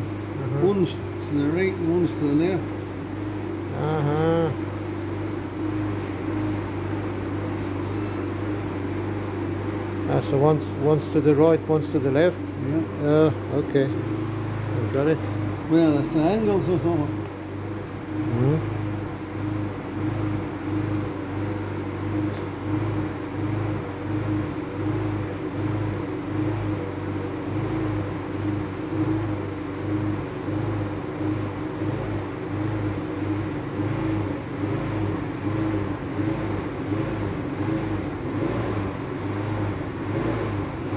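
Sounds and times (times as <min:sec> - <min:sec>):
generator engine running: 0:00.0 - 0:40.9.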